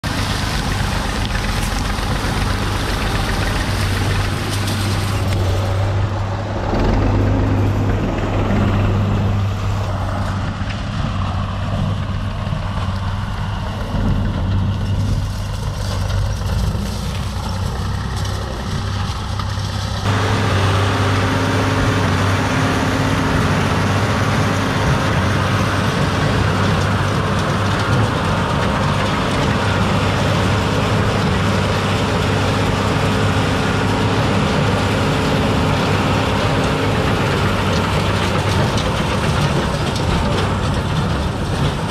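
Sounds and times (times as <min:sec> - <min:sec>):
square baler running: 0:00.0 - 0:41.9
tractor diesel engine: 0:00.0 - 0:41.9.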